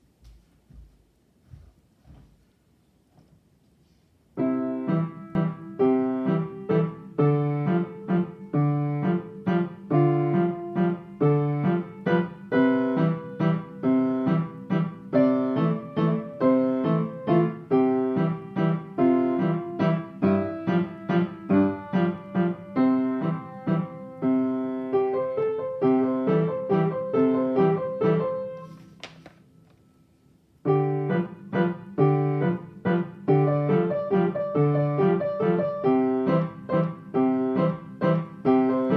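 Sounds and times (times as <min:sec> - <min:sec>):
piano waltz: 0:04.1 - 0:29.0, 0:30.5 - 0:38.9.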